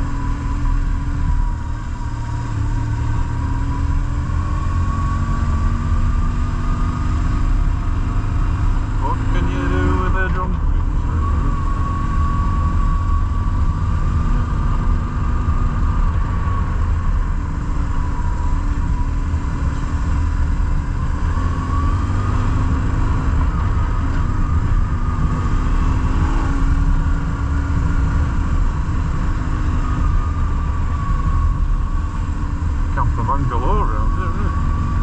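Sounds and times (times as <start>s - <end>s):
wind rumble on microphone: 0.0s - 33.4s
motorcycle engine running: 0.0s - 35.0s.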